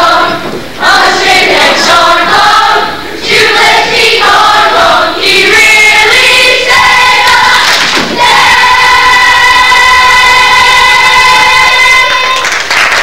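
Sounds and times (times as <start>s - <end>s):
chorus of young voices singing: 0.0s - 12.5s.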